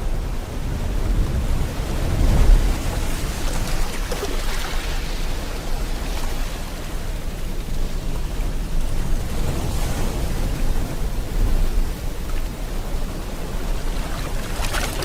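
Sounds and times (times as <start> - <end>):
ocean waves rolling in: 0.0 - 15.0.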